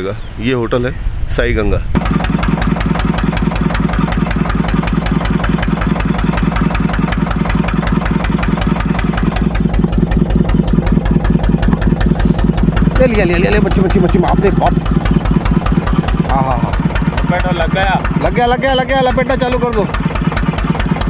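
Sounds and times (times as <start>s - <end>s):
boat engine chugging: 2.0s - 21.0s.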